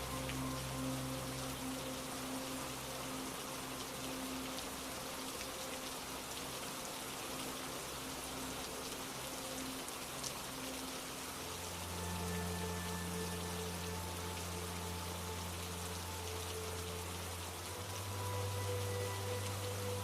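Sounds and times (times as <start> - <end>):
rain falling: 0.0 - 20.0
soft musical drone: 0.0 - 20.0.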